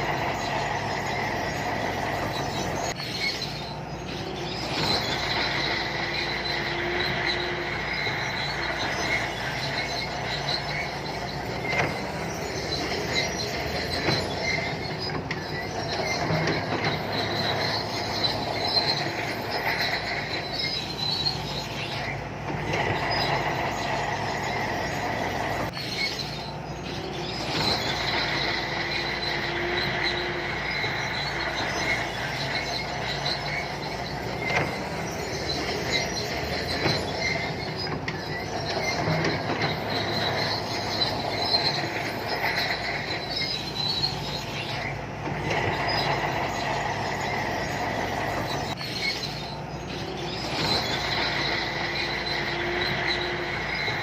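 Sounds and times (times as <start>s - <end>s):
bulldozer diesel engine running: 0.0s - 54.0s
high squeal: 0.0s - 54.0s
steel tracks clicking: 0.0s - 54.0s.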